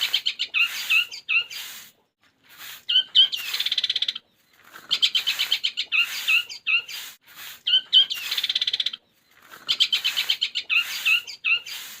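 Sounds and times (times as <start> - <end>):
bird singing trills and chirps: 0.0 - 12.0.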